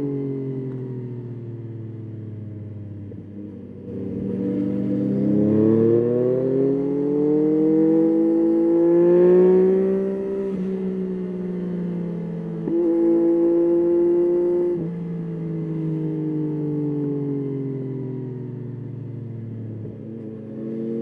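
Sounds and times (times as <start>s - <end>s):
motorcycle engine accelerating: 0.0s - 18.1s.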